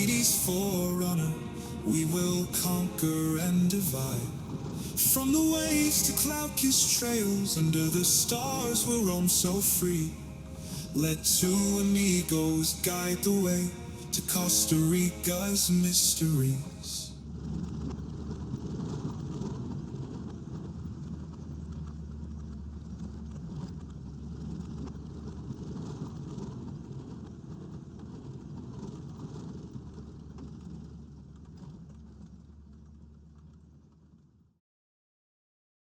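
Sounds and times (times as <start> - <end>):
road noise: 0.0 - 34.4
vehicle engine running: 0.0 - 34.6.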